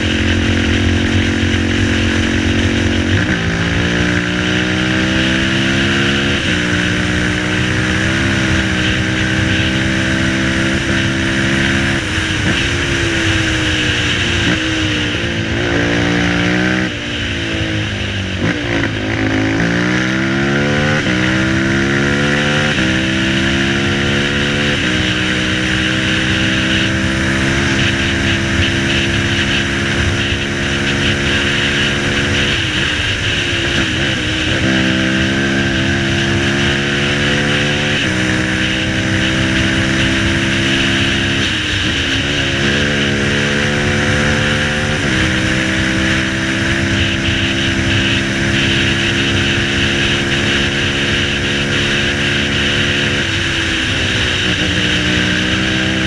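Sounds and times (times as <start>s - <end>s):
quad engine revving: 0.0s - 56.0s
wind rushing over microphone: 0.0s - 56.0s.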